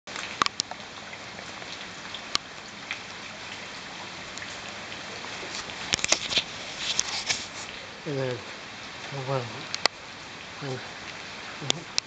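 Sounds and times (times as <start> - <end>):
heavy rain on brick paving: 0.1 - 12.0.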